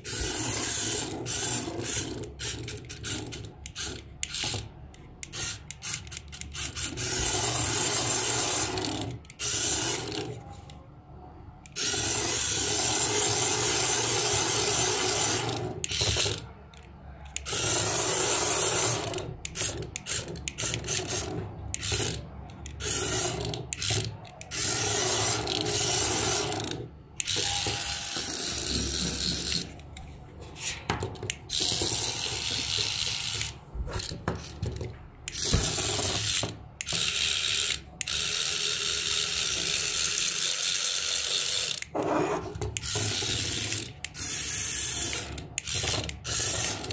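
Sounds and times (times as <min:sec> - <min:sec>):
toy electric motor and gears: 0:00.0 - 0:10.8, 0:11.6 - 0:46.9.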